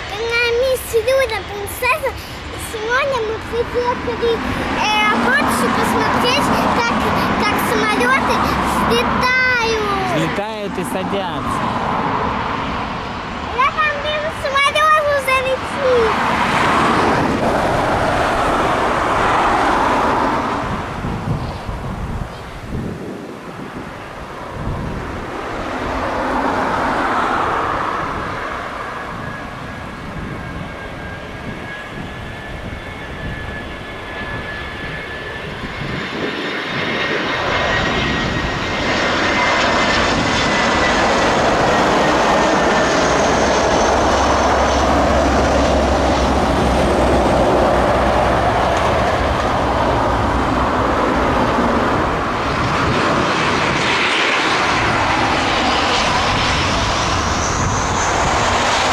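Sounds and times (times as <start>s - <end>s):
jet engines whining and rumbling: 0.0s - 58.9s.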